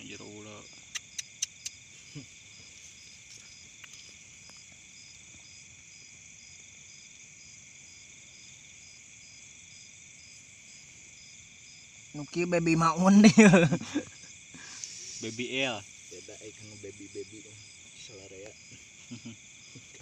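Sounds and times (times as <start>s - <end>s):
crickets trilling: 0.0s - 20.0s
insect chirping: 0.0s - 20.0s.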